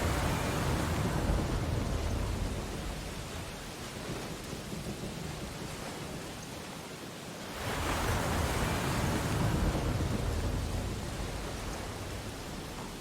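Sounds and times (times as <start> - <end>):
wave breaking and washing back: 0.0 - 6.1, 7.4 - 13.0.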